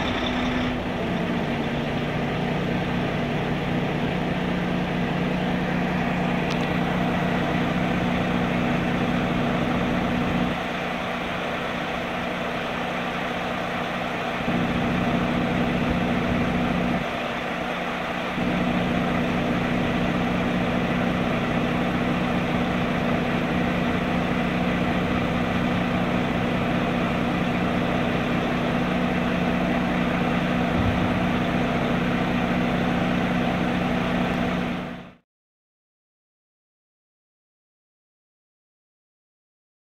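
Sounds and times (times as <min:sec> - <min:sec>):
truck engine idling: 0:00.0 - 0:35.2.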